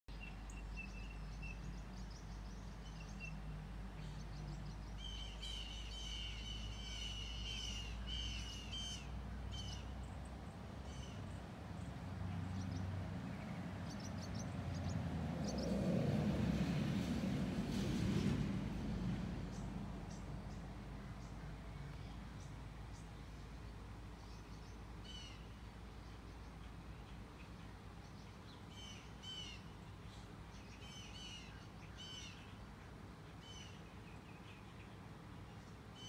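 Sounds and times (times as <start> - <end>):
wild birds chirping: 0.1 - 16.3, 18.7 - 36.0.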